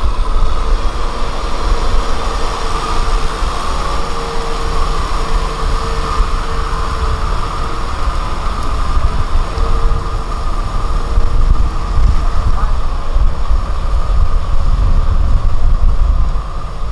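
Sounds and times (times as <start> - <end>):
rotavator churning mud: 0.0 - 16.9
tractor diesel engine droning: 0.0 - 16.9.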